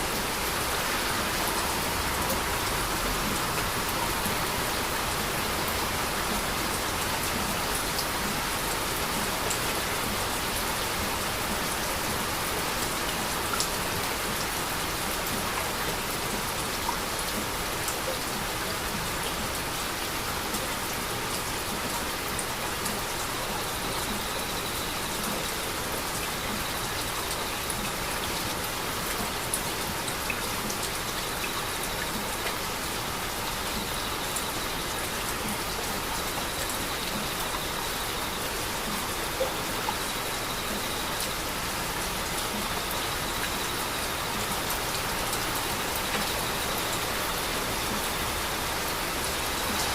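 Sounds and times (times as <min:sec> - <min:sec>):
heavy rain: 0:00.0 - 0:49.9.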